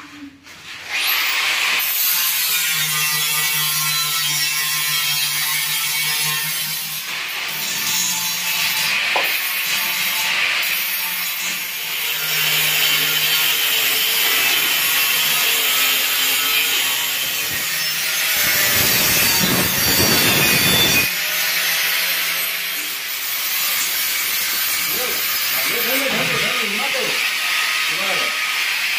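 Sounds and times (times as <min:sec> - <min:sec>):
angle grinder cutting stone: 0:00.8 - 0:28.9.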